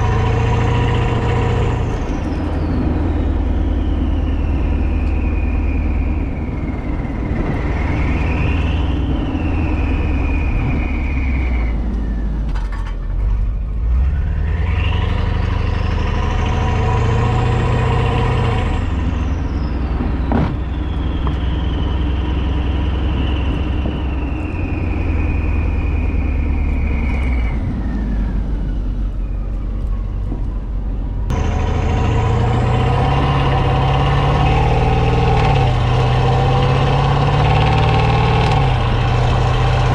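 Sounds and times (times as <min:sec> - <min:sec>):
car exhaust accelerating: 0:00.0 - 0:39.9
road and tyre noise: 0:00.0 - 0:39.9.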